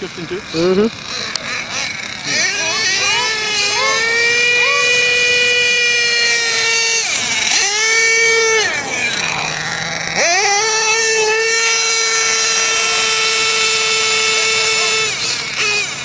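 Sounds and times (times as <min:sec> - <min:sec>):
small two-stroke engine revving: 0:00.0 - 0:16.0.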